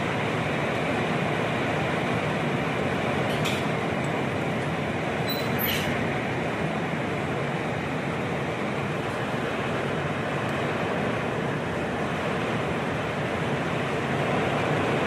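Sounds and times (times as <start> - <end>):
heavy wind-driven rain: 0.0 - 15.0.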